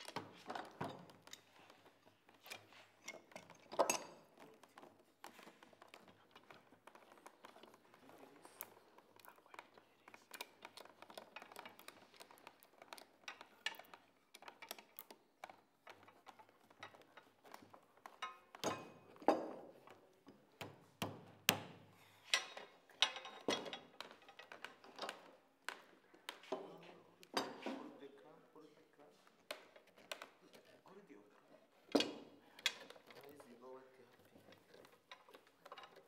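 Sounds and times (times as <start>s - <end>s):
metal clamps clicking and knocking: 0.0s - 8.8s, 10.3s - 28.0s, 31.4s - 36.0s.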